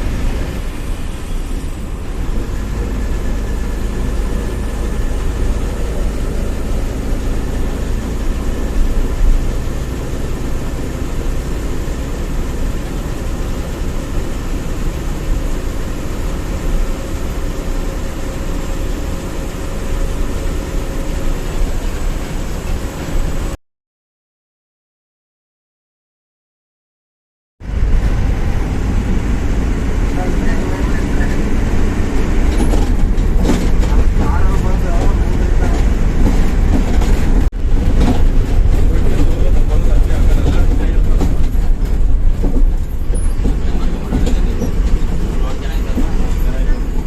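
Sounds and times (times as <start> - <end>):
bus engine and road noise: 0.0 - 23.6, 27.6 - 47.0.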